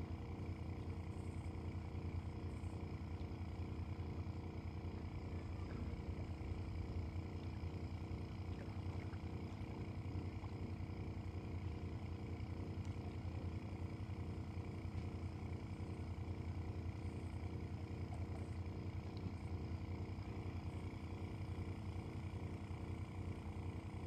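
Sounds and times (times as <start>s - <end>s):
motor humming with fast pulse: 0.0s - 24.0s.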